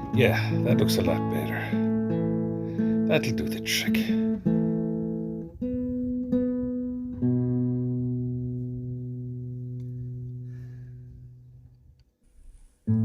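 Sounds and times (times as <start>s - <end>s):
plucked guitar: 0.0s - 11.9s, 12.5s - 13.0s.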